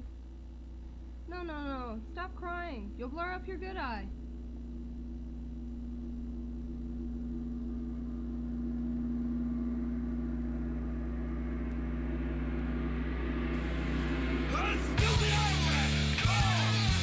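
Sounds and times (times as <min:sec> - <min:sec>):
constant deep hum: 0:00.0 - 0:17.0
low synthesizer drone: 0:00.0 - 0:17.0.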